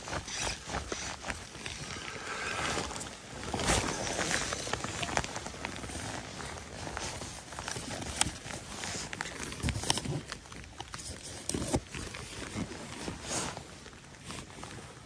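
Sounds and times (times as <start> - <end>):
clothing rustling: 0.0 - 15.0.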